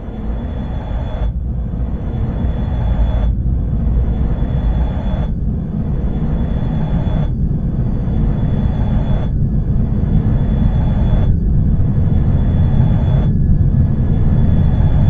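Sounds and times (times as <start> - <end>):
heavy low rumble: 0.0 - 15.0.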